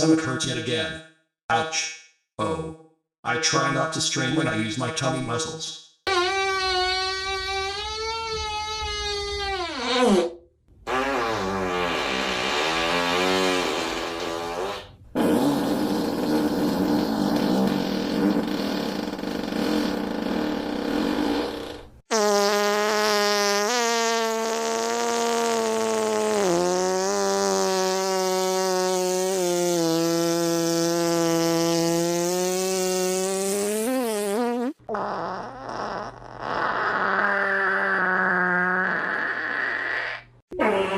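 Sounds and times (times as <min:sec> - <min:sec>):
buzzy fart sound effect: 0:06.1 - 0:40.9
drawn-out steady fart: 0:06.1 - 0:40.9.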